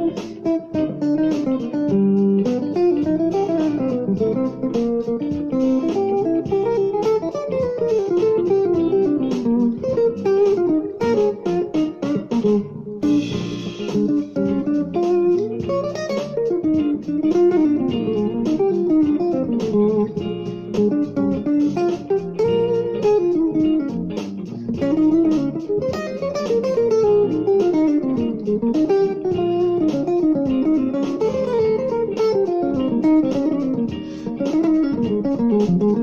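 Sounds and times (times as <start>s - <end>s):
electric guitar solo: 0.0s - 36.0s.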